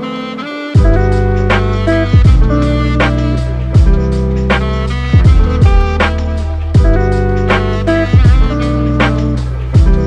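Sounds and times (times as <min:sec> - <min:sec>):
instrumental background music: 0:00.0 - 0:10.0
deep bass line: 0:00.8 - 0:10.0
drum beat: 0:00.8 - 0:10.0.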